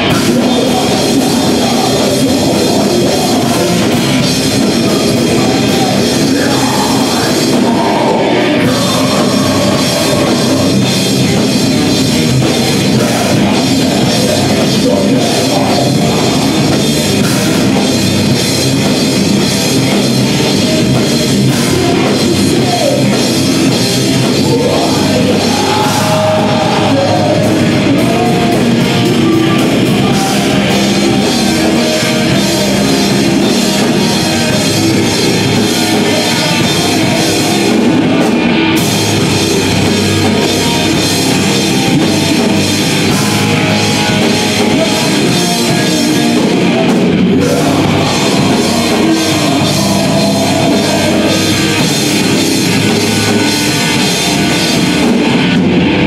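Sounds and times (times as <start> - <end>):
distorted electric guitar: 0.0 - 56.0
drum kit: 0.0 - 56.0
harsh vocals: 0.0 - 56.0.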